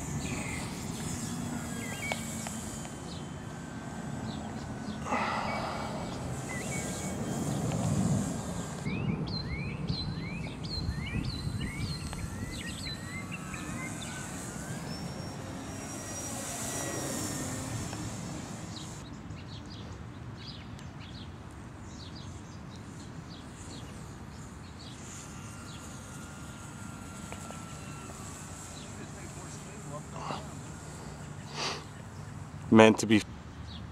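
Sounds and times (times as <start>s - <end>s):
model plane motor whine: 0.0s - 19.1s, 22.0s - 32.7s
bird chirping: 0.0s - 32.8s.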